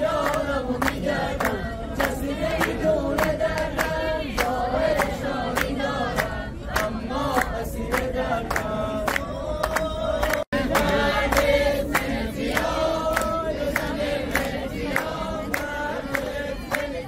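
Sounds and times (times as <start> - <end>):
crowd singing: 0.0 - 17.0
hand claps: 0.1 - 17.0.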